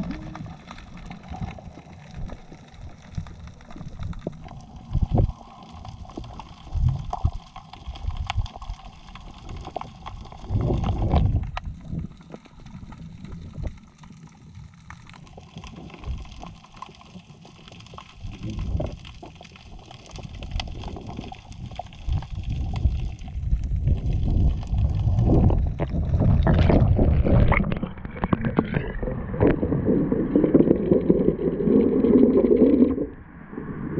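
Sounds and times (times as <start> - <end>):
water gurgling and sloshing: 0.0 - 33.9.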